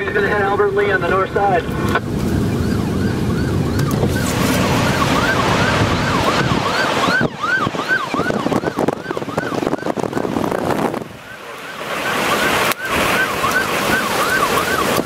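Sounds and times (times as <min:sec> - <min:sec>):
wind and road noise: 0:00.0 - 0:15.0
siren yelping: 0:01.6 - 0:15.0.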